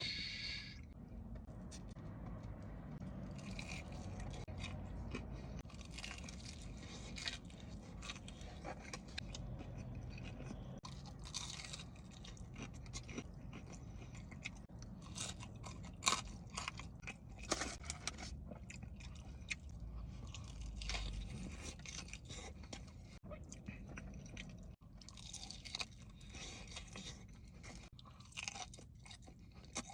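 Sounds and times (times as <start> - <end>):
crunching crispy chicken: 3.2 - 23.0, 23.7 - 29.9.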